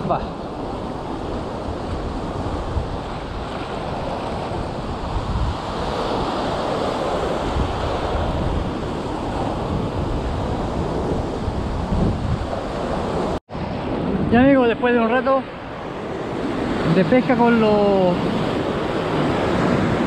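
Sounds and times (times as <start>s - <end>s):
wind rumble on microphone: 0.0s - 17.4s, 18.0s - 20.0s
ocean surf breaking: 0.0s - 20.0s.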